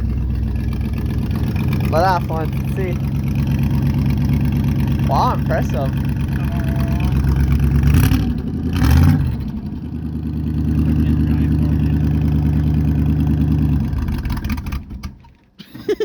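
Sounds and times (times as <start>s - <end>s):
truck engine idling: 0.0s - 15.2s.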